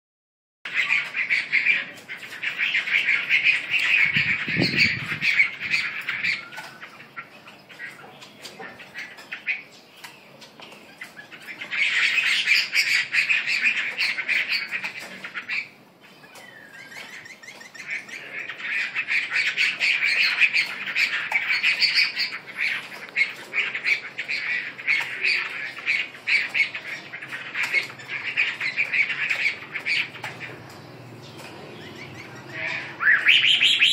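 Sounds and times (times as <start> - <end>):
songbirds chattering: 0.7 - 33.9.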